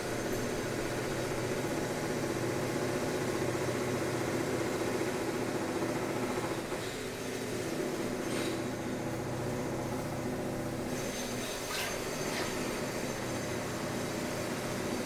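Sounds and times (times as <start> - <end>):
construction machinery engine drone: 0.0 - 15.0.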